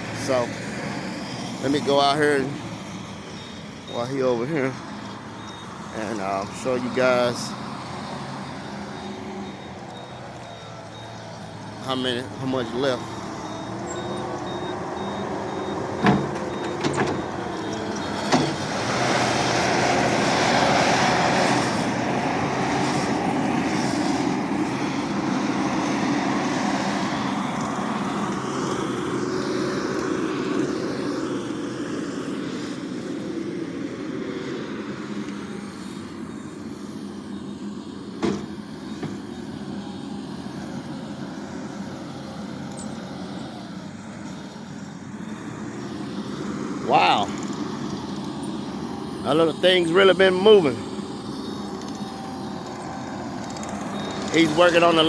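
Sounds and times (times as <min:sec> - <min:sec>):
loader engine under load: 0:00.0 - 0:33.3, 0:37.0 - 0:55.0.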